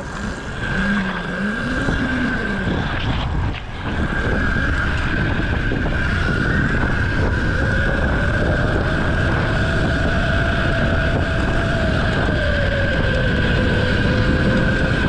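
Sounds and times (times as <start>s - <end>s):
mini bike engine running: 0.0s - 15.0s
wind buffeting microphone: 0.0s - 15.0s.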